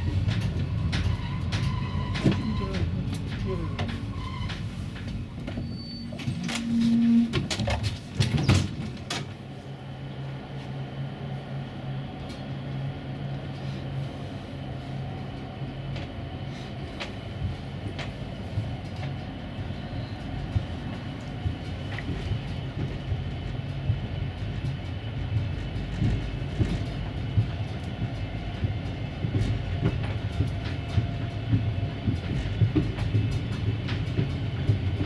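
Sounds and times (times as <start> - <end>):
train clanks and knocks: 0.0 - 35.0
train low drone: 0.0 - 35.0.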